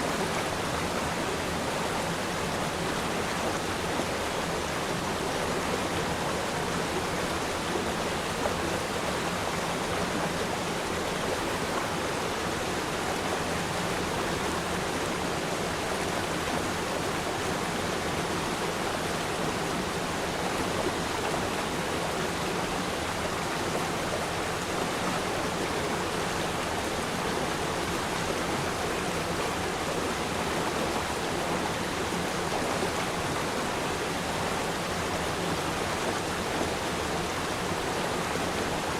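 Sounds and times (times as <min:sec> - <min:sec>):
river stream flowing: 0:00.0 - 0:38.9.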